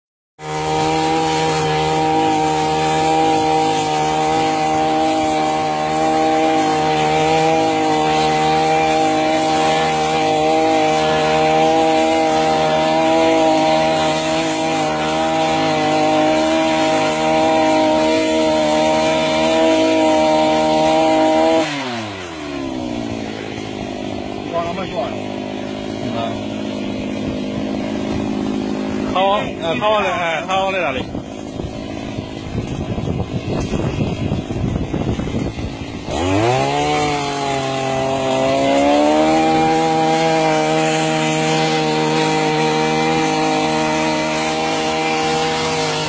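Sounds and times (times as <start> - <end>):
brush cutter engine running: 0.4 - 46.0.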